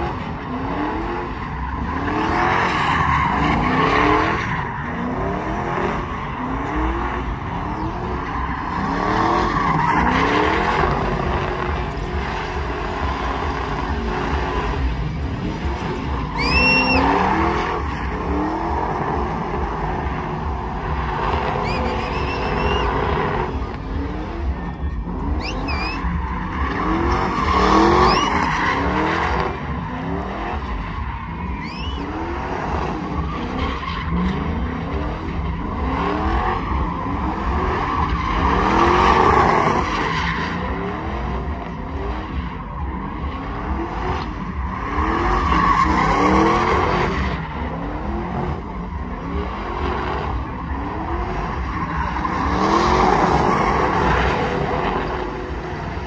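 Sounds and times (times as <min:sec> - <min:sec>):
truck engine revving: 0:00.0 - 0:56.0
tyres spinning and squealing: 0:00.1 - 0:56.0.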